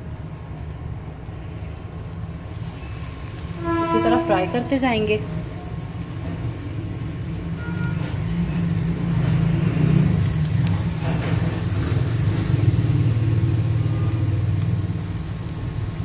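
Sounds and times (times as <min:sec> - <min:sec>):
oil crackling: 0:00.0 - 0:16.0
chicken sizzling in hot oil: 0:01.6 - 0:16.0.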